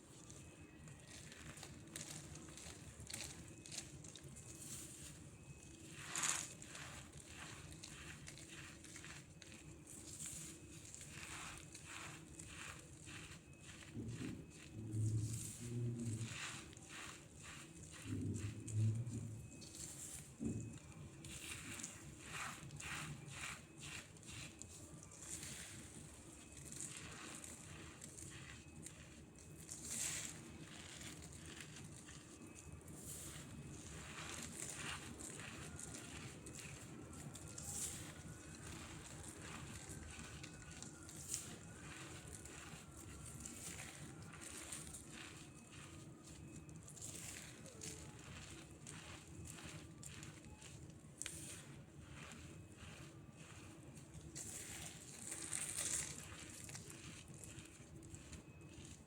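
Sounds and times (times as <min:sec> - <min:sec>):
cornstarch crumbs crunching: 0:00.0 - 0:59.0.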